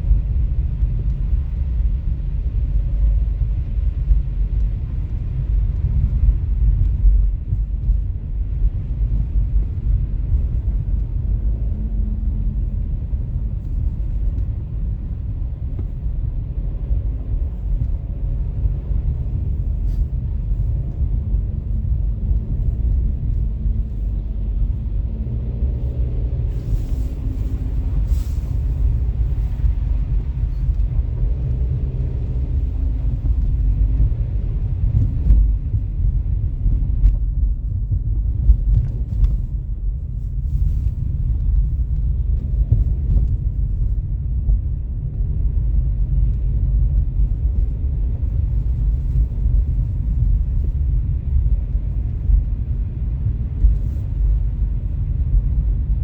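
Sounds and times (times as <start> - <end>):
street traffic: 0.0 - 56.0
vehicle engine humming: 0.0 - 56.0.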